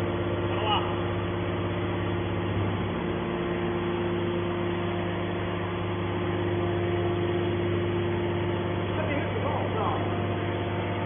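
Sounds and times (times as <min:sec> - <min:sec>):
baler motor and pump humming: 0:00.0 - 0:11.0.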